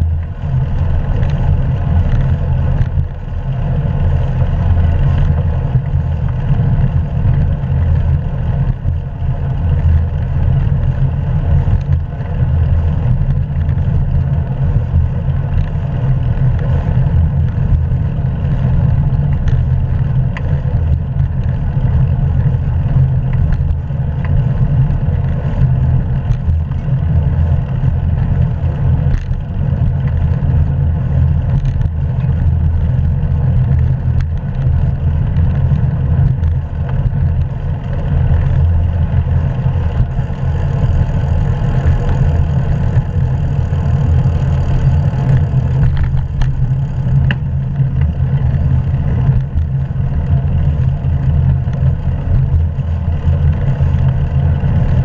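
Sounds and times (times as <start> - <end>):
wind and road noise rumble: 0.0 - 55.0.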